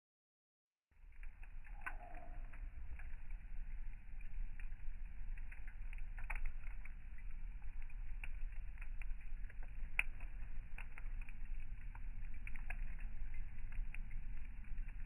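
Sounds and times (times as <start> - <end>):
campfire crackling and popping: 1.0 - 15.0
steady low rumble: 1.0 - 15.0.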